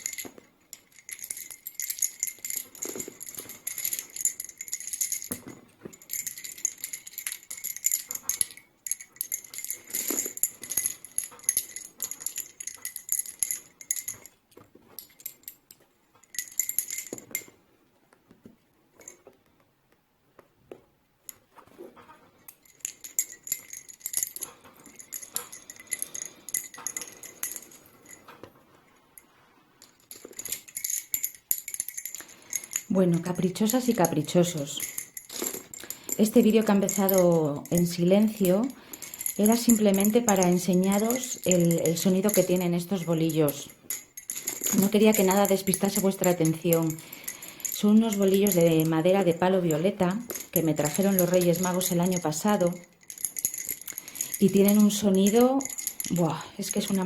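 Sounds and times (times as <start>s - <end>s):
lace bobbins clicking: 0.0s - 57.0s.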